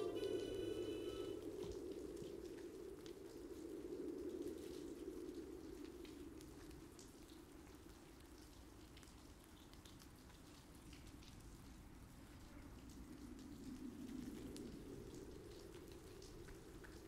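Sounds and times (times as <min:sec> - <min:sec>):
soft crackles: 0:00.0 - 0:17.0.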